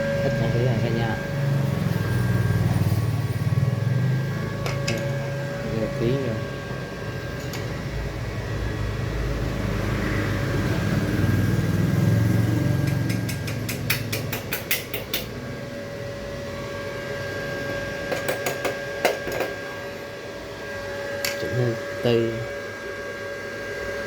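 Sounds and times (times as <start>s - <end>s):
welder electrical hum: 0.0s - 24.0s.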